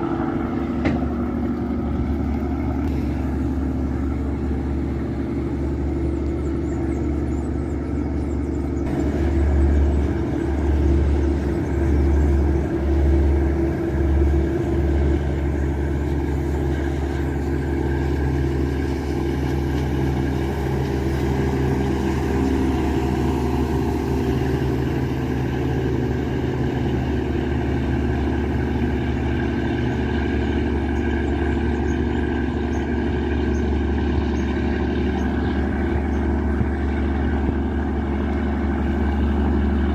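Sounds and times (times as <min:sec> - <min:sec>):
boat diesel engine humming: 0:00.0 - 0:39.9.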